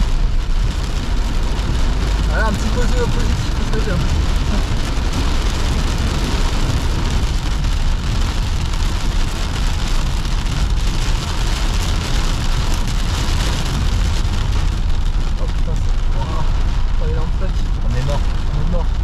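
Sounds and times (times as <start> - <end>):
heavy rain on car roof: 0.0 - 19.0
low rumble: 0.0 - 19.0.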